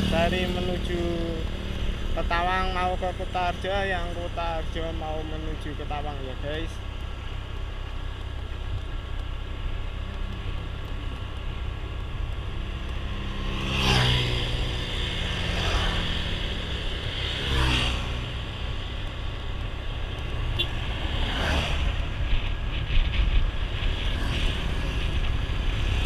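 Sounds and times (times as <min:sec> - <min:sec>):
low traffic rumble: 0:00.0 - 0:26.0
vehicles passing by: 0:00.0 - 0:26.0.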